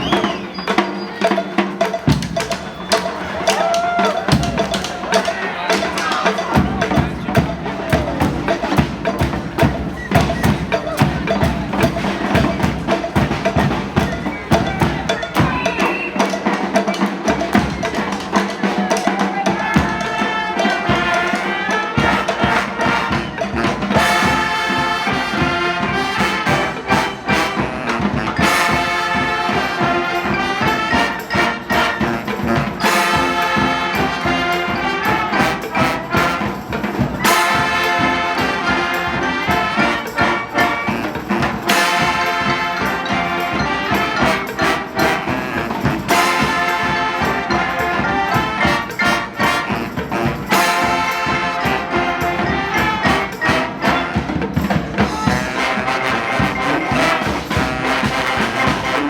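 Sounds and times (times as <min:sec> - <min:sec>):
drums and hand percussion: 0:00.0 - 0:59.0
trumpets and trombones: 0:00.0 - 0:59.0.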